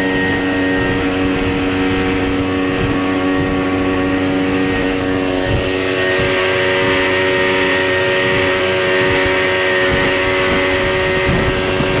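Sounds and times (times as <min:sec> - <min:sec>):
motorboat engine running: 0:00.0 - 0:12.0
water rushing along hull: 0:00.0 - 0:12.0
wind noise: 0:00.0 - 0:12.0.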